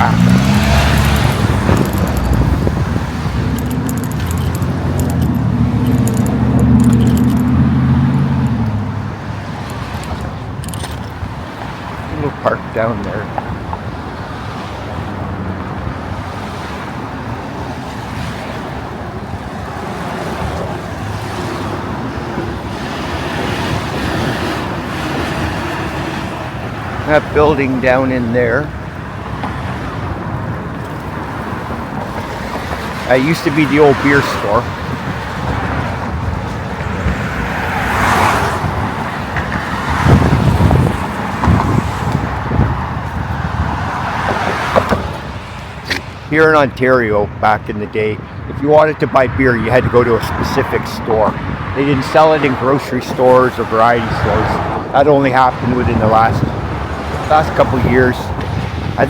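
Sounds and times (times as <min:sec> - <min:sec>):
wind buffeting microphone: 0:00.0 - 0:46.3, 0:49.3 - 0:59.0
cars driving by: 0:00.0 - 0:59.0
road traffic going by: 0:00.0 - 0:59.0.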